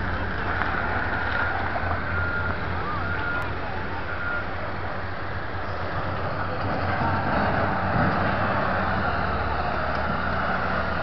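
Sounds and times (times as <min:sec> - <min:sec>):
diesel wheel loader engine running: 0:00.0 - 0:11.0.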